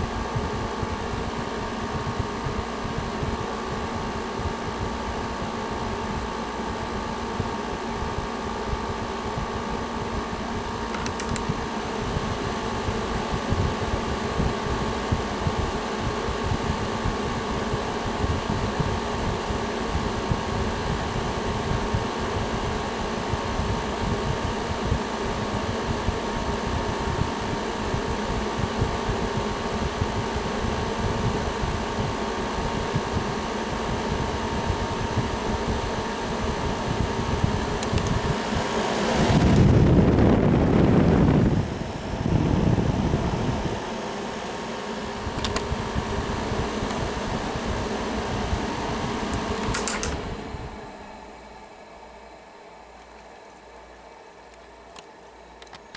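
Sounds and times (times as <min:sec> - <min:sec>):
window air conditioner humming: 0:00.0 - 0:55.9.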